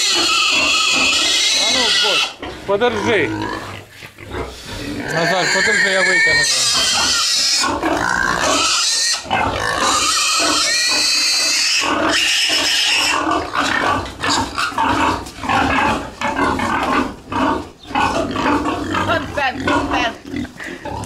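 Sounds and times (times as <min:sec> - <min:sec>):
young pig squealing: 0:00.0 - 0:21.0.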